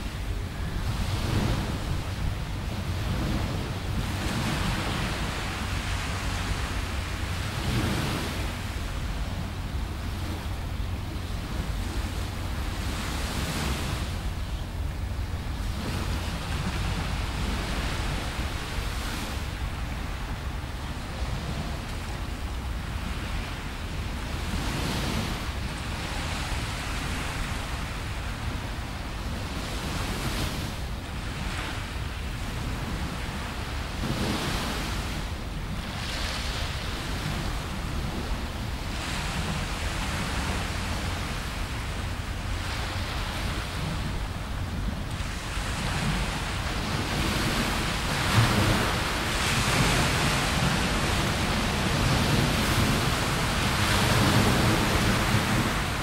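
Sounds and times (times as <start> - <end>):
steady low rumble: 0.0 - 30.0, 36.6 - 56.0
waves breaking on beach: 0.0 - 56.0.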